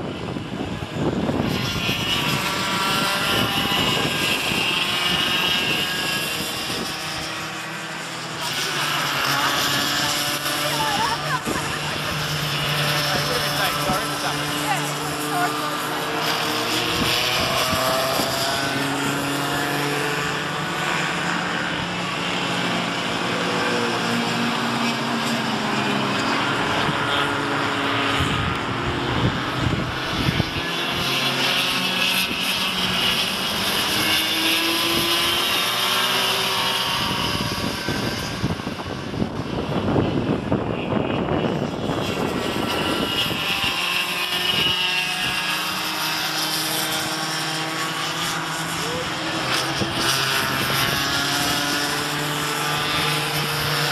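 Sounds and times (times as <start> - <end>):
go-kart engines buzzing: 0.0 - 53.9.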